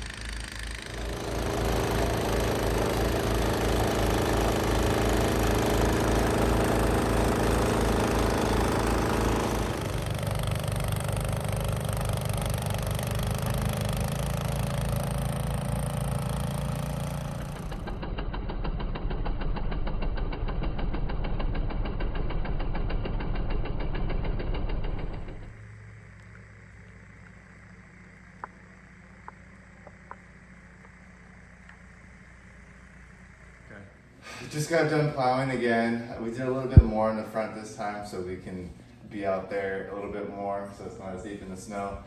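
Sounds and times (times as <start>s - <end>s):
snow blower engine running: 0.0s - 33.6s, 34.2s - 37.9s.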